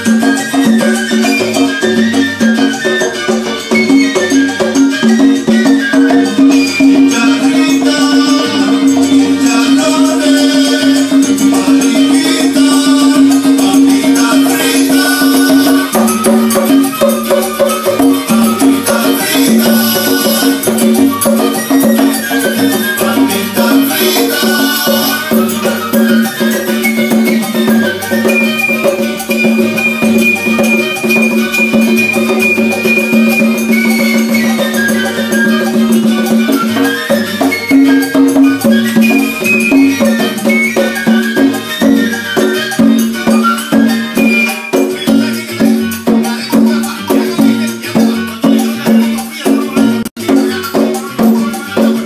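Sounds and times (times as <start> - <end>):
conga drums played by hand: 0.0 - 52.0
salsa music: 0.0 - 52.0.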